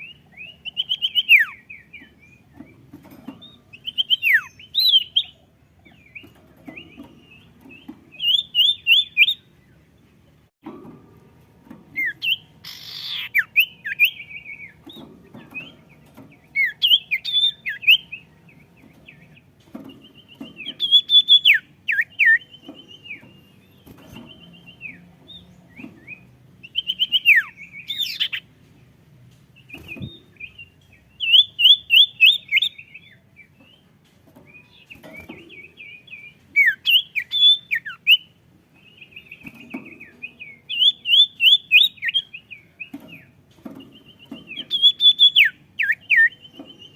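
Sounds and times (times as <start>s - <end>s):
songbird trilling and whistling: 0.0s - 2.8s, 3.4s - 9.5s, 12.0s - 28.5s, 29.6s - 33.9s, 34.5s - 46.9s.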